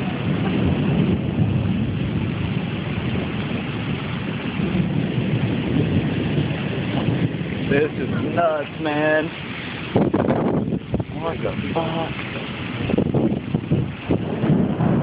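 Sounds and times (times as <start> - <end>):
low thunder rumble: 0.0 - 15.0
rain hissing: 0.0 - 15.0.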